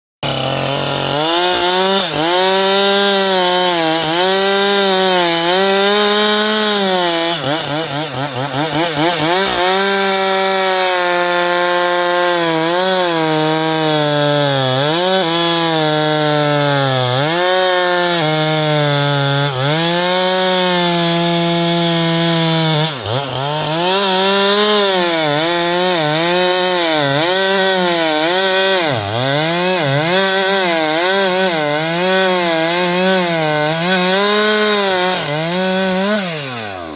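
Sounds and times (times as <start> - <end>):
chainsaw cutting wood: 0.2 - 36.9.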